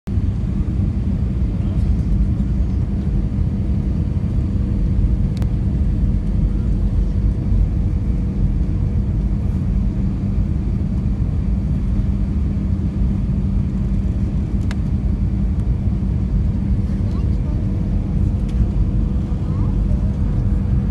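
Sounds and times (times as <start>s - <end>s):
airliner cabin rumble: 0.1s - 20.9s.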